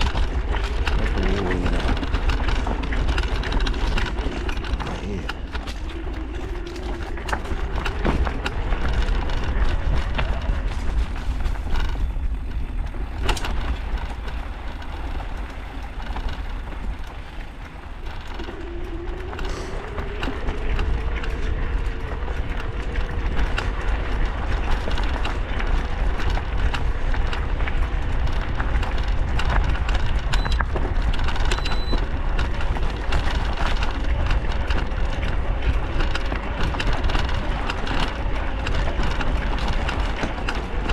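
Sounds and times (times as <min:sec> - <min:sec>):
road noise rumble: 0:00.0 - 0:40.9
vehicle engine: 0:00.0 - 0:40.9.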